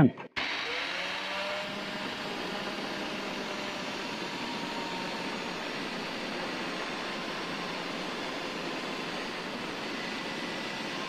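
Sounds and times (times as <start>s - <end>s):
angle grinder cutting metal: 0.4s - 9.5s
faint motor whine: 0.4s - 11.0s.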